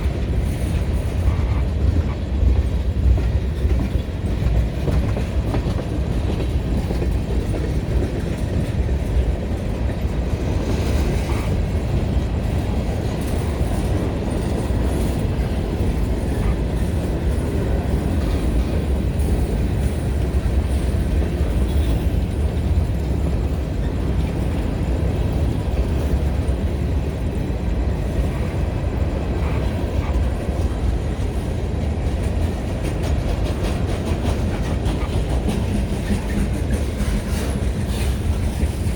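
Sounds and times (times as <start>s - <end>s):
freight train rumbling on rails: 0.0s - 38.9s.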